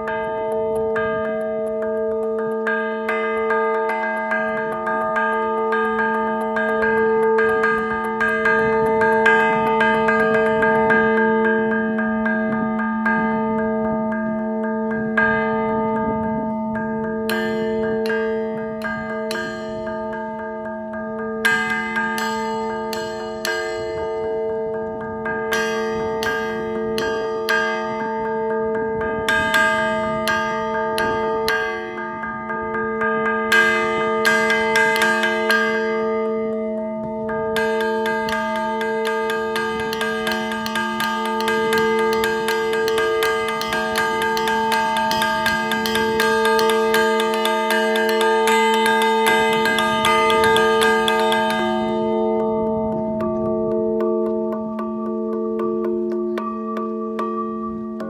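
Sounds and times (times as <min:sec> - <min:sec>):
bell ringing hum: 0:00.0 - 0:58.0
bell struck with hammers: 0:00.0 - 0:58.0.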